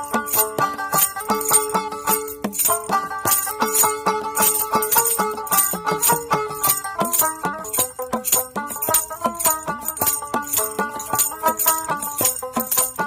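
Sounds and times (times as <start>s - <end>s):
music with sharp percussion: 0.0s - 13.0s.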